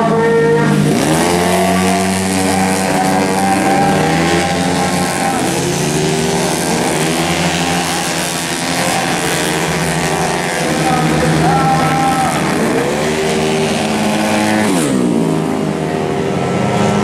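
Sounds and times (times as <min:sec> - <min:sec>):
racing scooter engines accelerating: 0:00.0 - 0:17.0.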